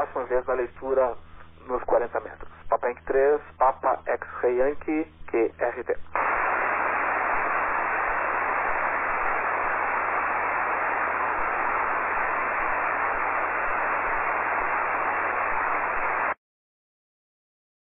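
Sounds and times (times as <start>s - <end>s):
faint low hum: 0.0s - 16.4s
radio receiver static hiss: 0.0s - 16.4s.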